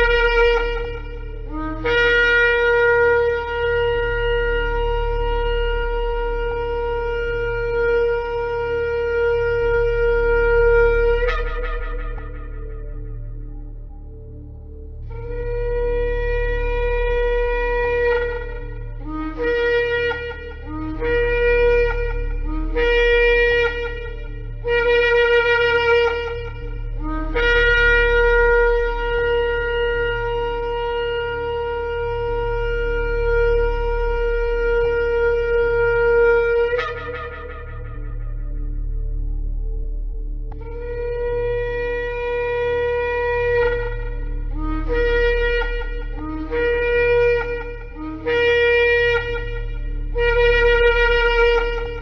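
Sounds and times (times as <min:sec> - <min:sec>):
ram's horn blasts: 0:00.0 - 0:52.0
steady low hum: 0:00.0 - 0:52.0.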